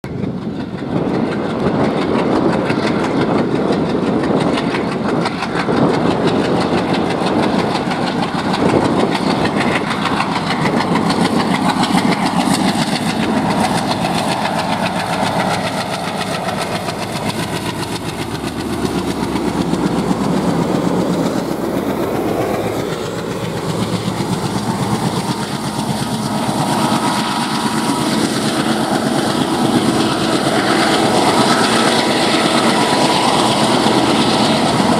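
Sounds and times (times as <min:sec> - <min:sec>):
diesel locomotive engines chugging: 0:00.0 - 0:34.9.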